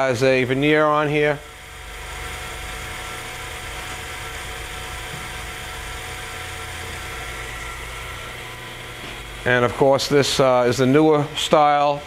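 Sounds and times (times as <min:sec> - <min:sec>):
grinder motor humming and whining: 0:00.0 - 0:12.0.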